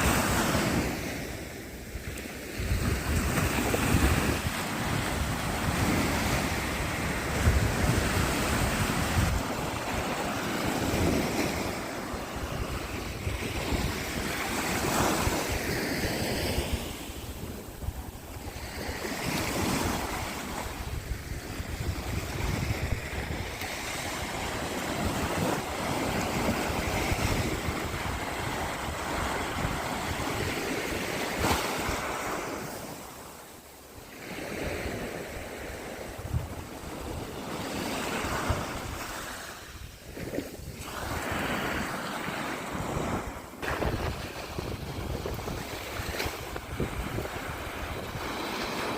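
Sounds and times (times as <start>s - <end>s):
wind rumbling on microphone: 0.0s - 33.2s, 34.2s - 48.9s
surf washing onto shore: 0.0s - 48.9s.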